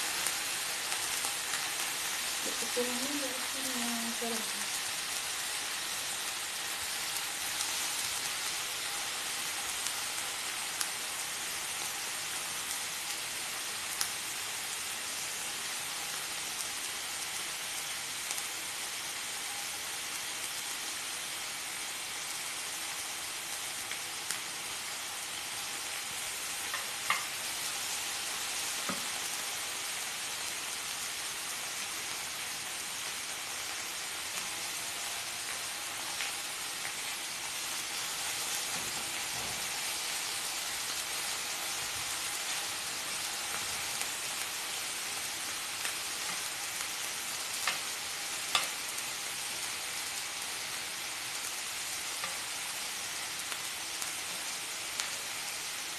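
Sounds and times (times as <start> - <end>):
pork sizzling in a pan: 0.0 - 55.9.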